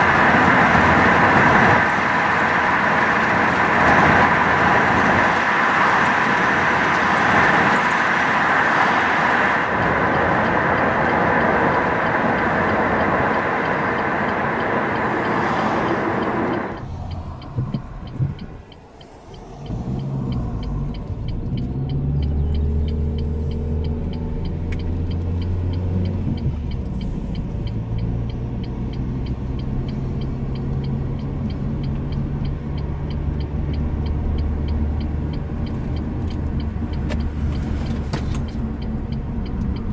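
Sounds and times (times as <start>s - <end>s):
car engine and tyres drone: 0.0s - 39.9s
road and wind rush: 0.0s - 39.9s.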